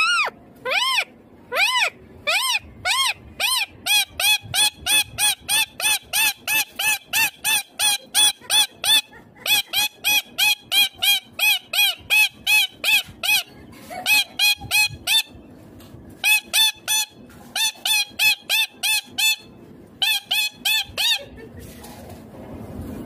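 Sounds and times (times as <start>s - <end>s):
parakeet high-pitched calls: 0.0s - 15.4s, 16.2s - 21.3s.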